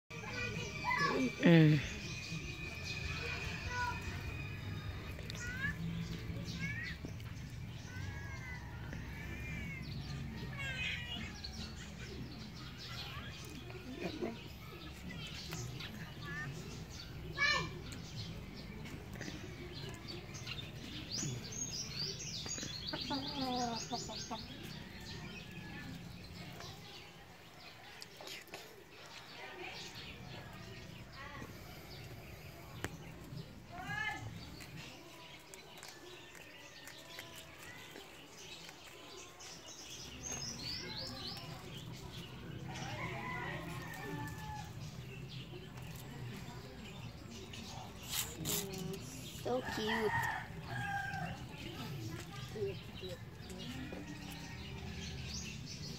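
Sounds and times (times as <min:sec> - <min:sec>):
rabbits chewing leaves: 0:00.1 - 0:55.9
small birds chirping: 0:00.1 - 0:55.9.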